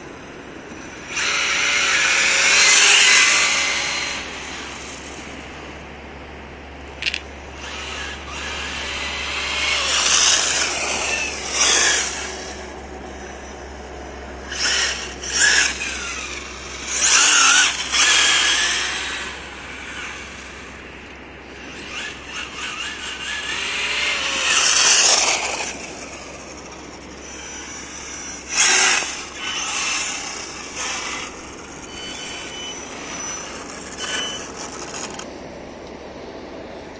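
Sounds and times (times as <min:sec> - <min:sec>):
electric motor whine: 0:00.0 - 0:36.2.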